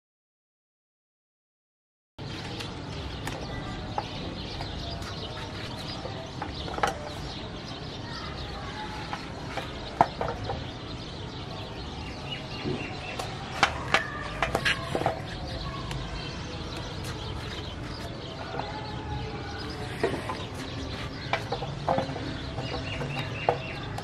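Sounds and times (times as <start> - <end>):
background noise: 2.2 - 24.0
birds calling: 2.2 - 24.0.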